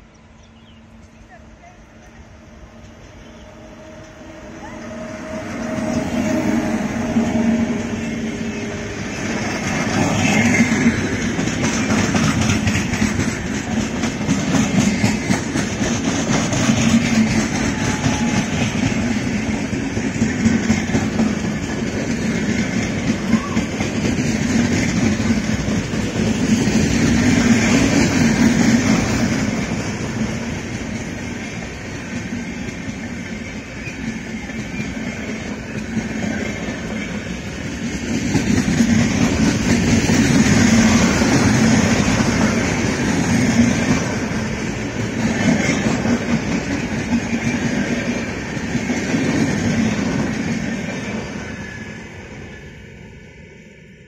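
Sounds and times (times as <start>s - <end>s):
train wheels rumbling and rattling: 0.0s - 54.0s.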